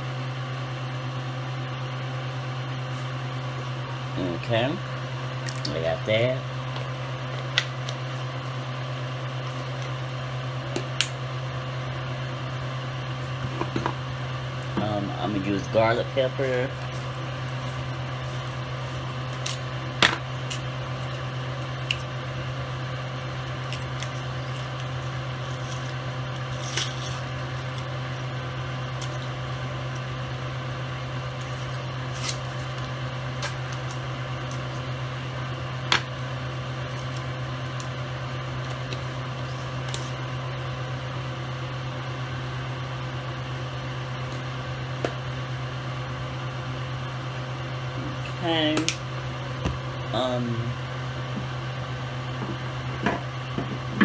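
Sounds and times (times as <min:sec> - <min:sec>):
appliance electrical hum: 0:00.0 - 0:54.0.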